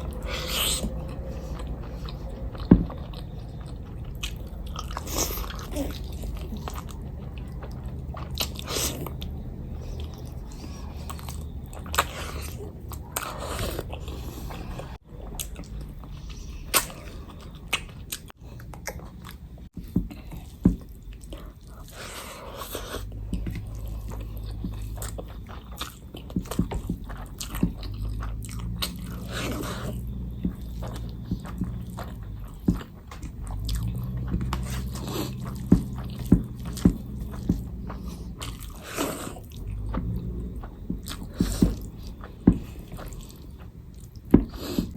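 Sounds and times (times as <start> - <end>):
chewing and biting food: 0.0 - 44.9
steady low hum: 0.0 - 44.9.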